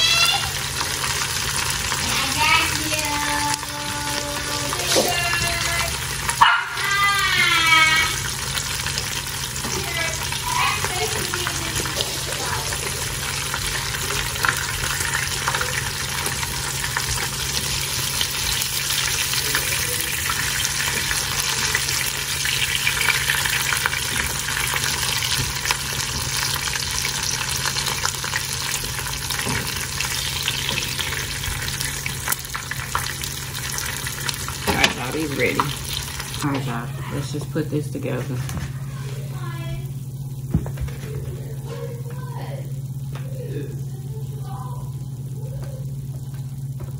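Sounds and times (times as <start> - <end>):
food frying in hot oil: 0.0 - 46.9.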